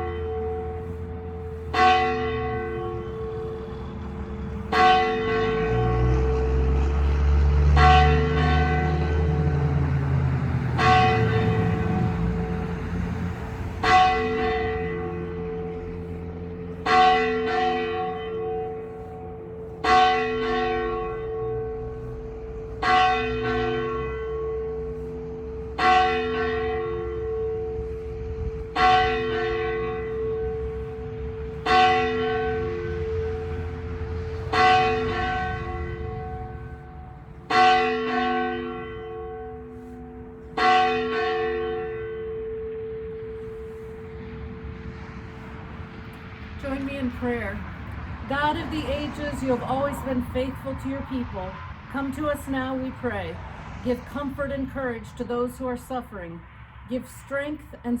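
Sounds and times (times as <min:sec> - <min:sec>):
church bell tolling: 0:00.0 - 0:55.6.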